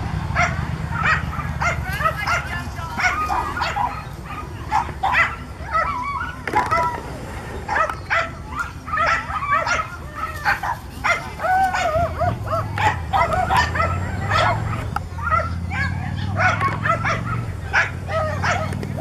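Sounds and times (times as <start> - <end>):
dogs barking and yipping: 0.0 - 19.0
steady low hum: 0.0 - 19.0.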